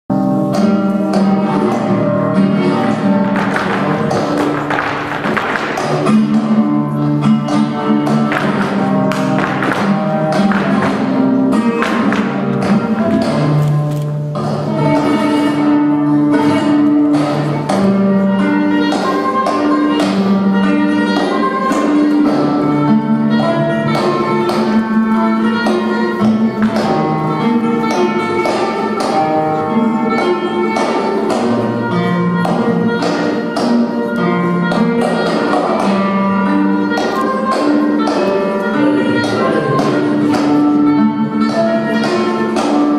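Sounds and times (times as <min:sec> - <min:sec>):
flamenco guitar music: 0:00.1 - 0:42.9
sharp percussive strikes: 0:00.4 - 0:42.9.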